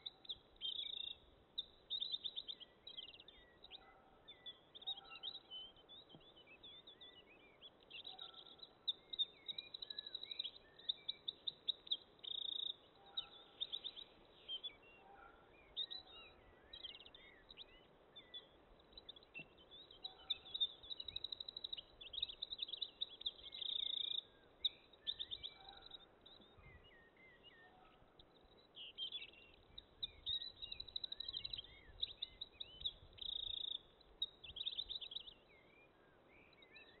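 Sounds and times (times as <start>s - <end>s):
faint background noise: 0.0s - 37.0s
songbirds singing: 0.0s - 37.0s.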